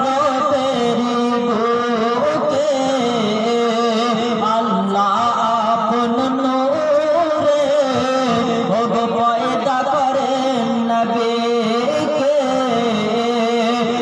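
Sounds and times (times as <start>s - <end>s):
man singing devotional song: 0.0s - 14.0s.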